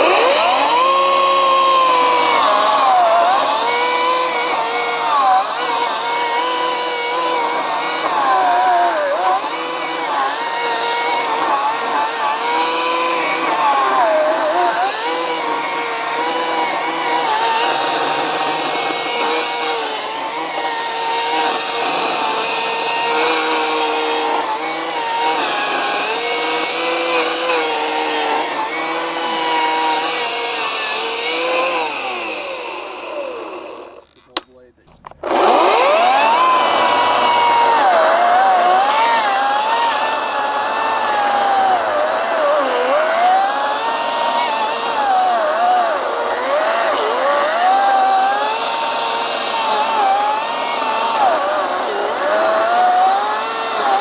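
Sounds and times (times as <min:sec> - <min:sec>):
electric chainsaw cutting wood: 0:00.0 - 0:54.0.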